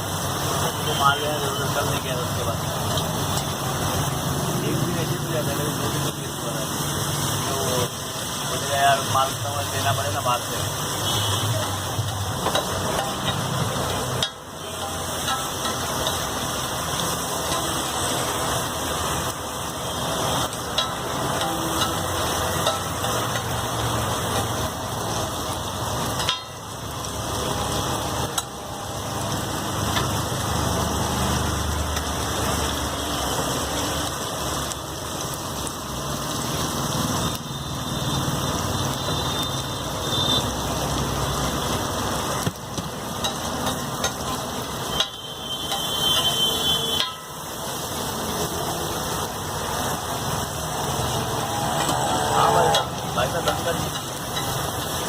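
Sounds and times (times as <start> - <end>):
egg sizzling on a griddle: 0.0 - 55.0.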